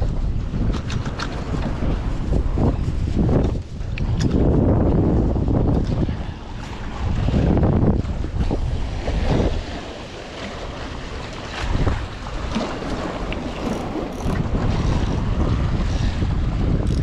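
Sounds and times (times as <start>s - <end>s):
wind buffeting microphone: 0.0s - 17.0s
waves splashing against rocks: 0.6s - 17.0s.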